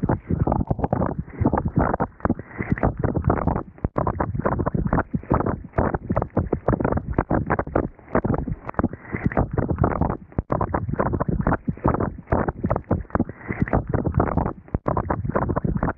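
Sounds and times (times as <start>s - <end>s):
water gushing over microphone: 0.0s - 15.9s.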